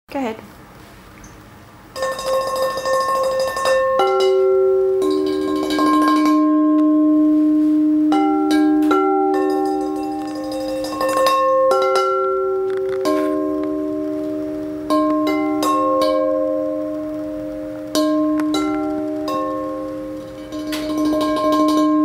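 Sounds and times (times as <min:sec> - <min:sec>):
bowls struck like bells: 0:01.9 - 0:22.0.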